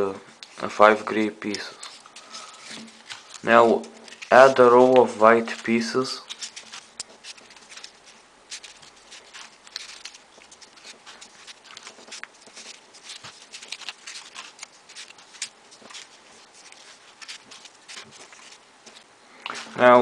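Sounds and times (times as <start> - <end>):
paper rustling: 0.0 - 20.0.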